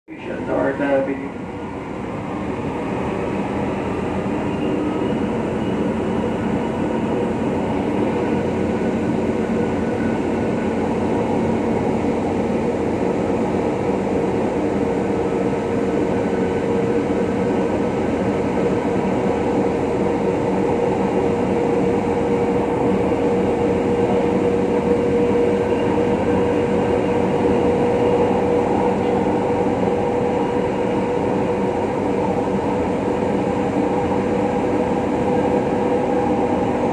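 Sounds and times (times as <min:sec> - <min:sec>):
train wheels rumbling on rail: 0:00.1 - 0:36.9
train motor hum: 0:00.2 - 0:36.9.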